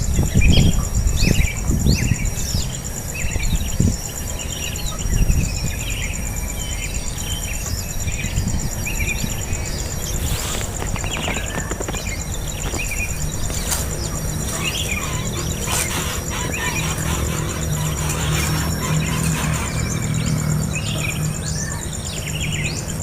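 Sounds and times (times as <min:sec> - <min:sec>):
constant low rumble: 0:00.0 - 0:23.0
pulsing insect trill: 0:00.0 - 0:23.0
small birds chirping: 0:00.0 - 0:23.0.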